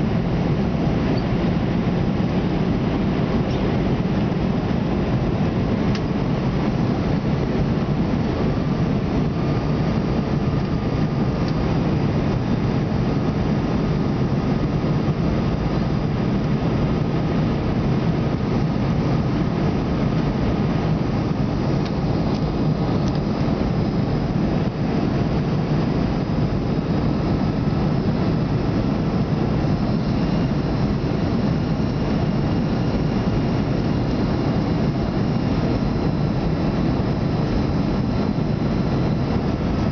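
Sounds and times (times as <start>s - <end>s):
airliner engines droning: 0.0s - 39.9s
faint steady whines: 0.0s - 39.9s.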